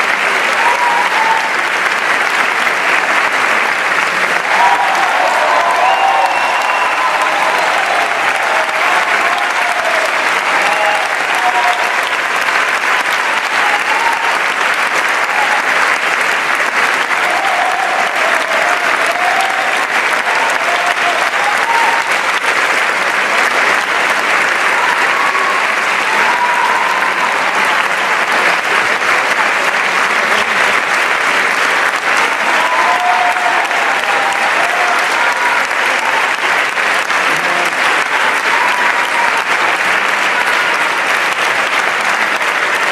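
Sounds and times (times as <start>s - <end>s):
audience applauding: 0.0s - 42.9s.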